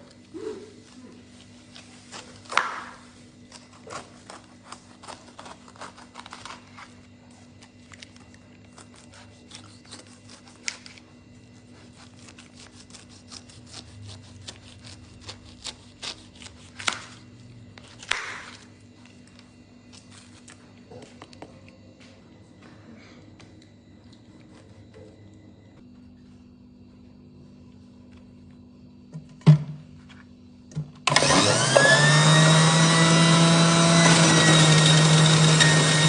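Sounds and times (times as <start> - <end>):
faint steady hum: 0.0 - 31.1.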